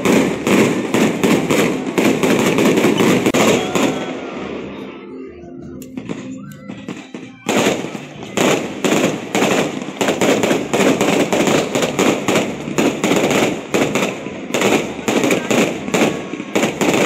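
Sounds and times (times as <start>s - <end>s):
fireworks bursting with cracks and bangs: 0.0s - 17.0s.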